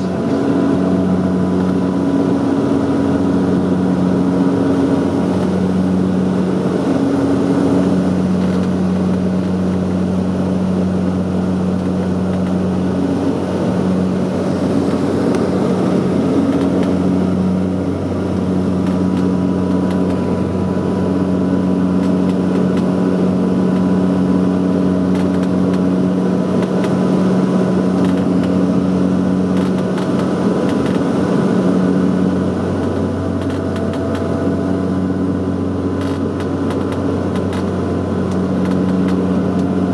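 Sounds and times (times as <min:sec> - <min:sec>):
turboprop engines droning in cabin: 0:00.0 - 0:39.9.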